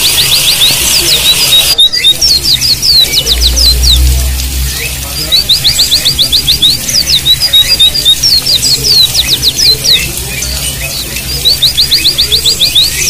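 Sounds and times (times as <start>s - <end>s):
bird chirps: 0.0s - 13.0s
birds singing high whistled notes: 0.0s - 13.0s
steady hiss: 0.0s - 13.0s.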